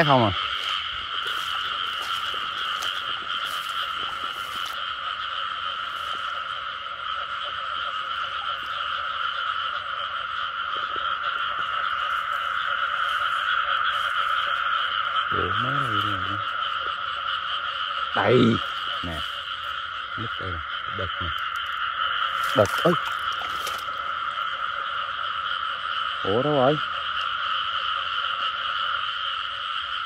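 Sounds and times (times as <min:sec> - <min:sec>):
chorus of frogs calling: 0:00.0 - 0:30.0.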